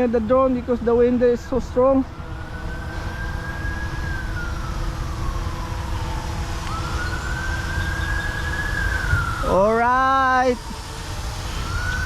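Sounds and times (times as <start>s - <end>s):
wind rumbling on microphone: 0.0s - 12.0s
drone motors whining: 1.8s - 12.0s.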